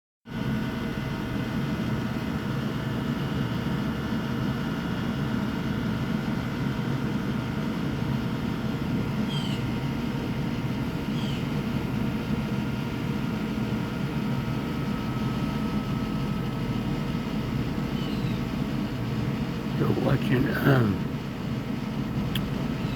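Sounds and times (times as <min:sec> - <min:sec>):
faint hum: 0:00.4 - 0:22.9.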